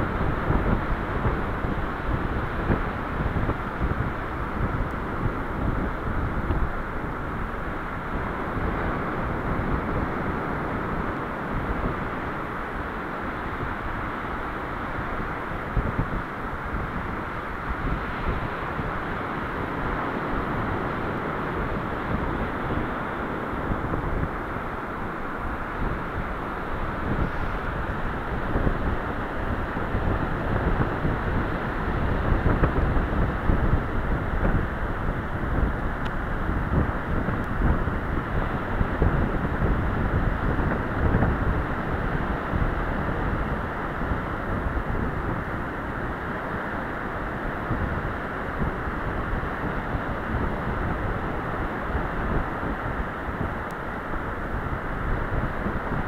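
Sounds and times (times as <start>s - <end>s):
breaking surf: 0.0s - 56.0s
wind buffeting microphone: 0.0s - 56.0s.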